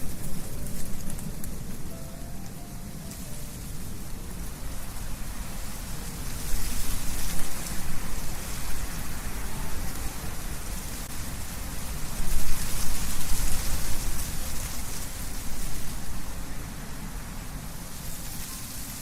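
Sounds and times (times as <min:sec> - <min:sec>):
leaves rustling: 0:00.0 - 0:19.0
wind through trees: 0:00.0 - 0:19.0.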